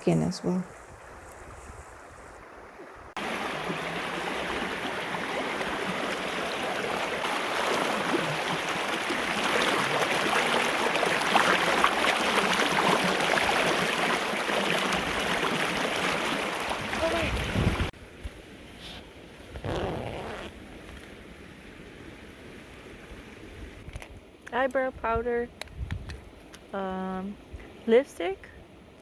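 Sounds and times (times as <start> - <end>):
stream water rushing and splashing: 0.8 - 24.4.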